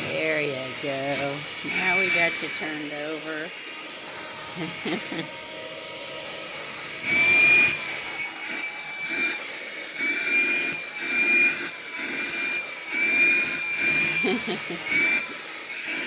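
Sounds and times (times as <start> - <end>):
handheld vacuum motor whining: 0.0 - 16.0.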